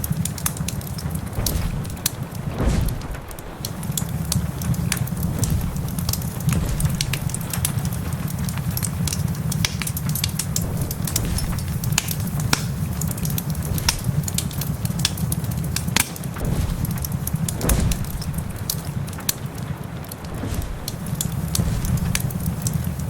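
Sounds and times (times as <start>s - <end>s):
rain hissing: 0.0s - 23.0s
wood fire crackling: 0.0s - 23.0s
low rumble: 1.2s - 8.8s, 10.4s - 23.0s.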